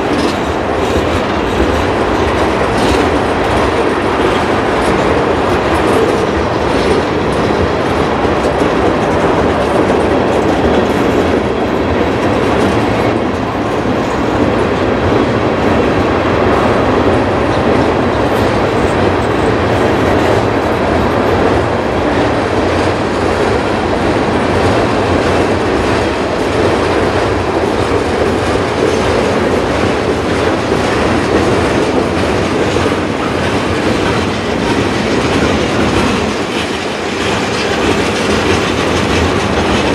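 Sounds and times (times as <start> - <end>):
steel wheels running on rails: 0.0 - 39.9.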